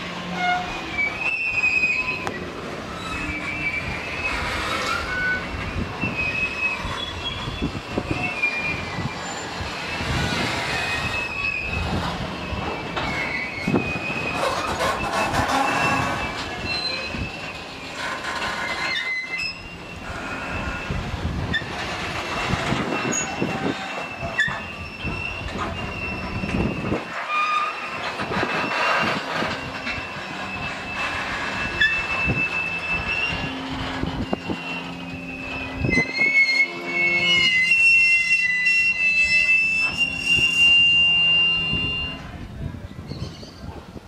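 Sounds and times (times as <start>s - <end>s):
train wheels squealing on rails: 0.0s - 44.0s
train wheels clacking: 0.1s - 42.4s.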